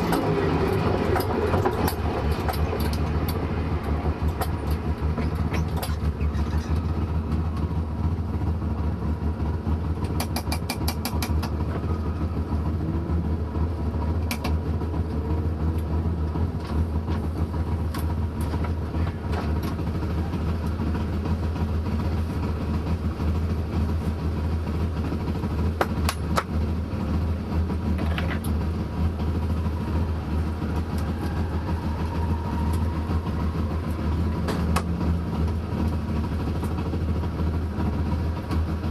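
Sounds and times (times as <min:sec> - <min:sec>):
car engine running at low speed: 0:00.0 - 0:38.9.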